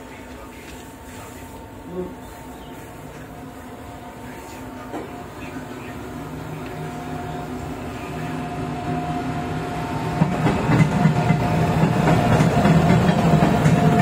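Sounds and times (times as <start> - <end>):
electric locomotive hum: 0.0 - 14.0.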